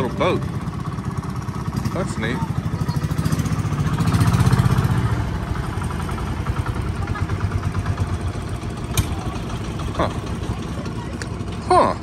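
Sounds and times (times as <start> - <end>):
boat engine puttering: 0.0 - 12.0.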